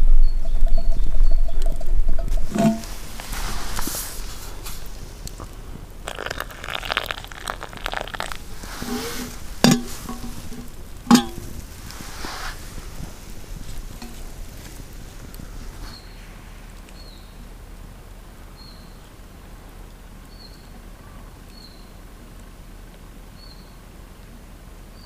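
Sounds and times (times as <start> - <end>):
campfire crackling and sizzling: 1.5 - 25.0.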